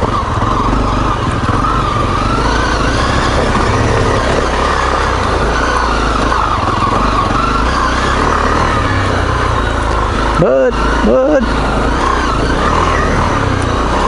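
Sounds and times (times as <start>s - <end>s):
motorcycle engine under load: 0.0s - 14.0s.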